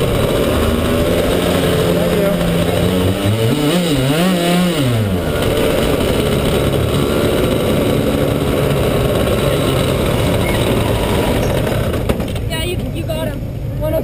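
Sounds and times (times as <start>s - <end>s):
racing kart engine revving: 0.0s - 12.7s.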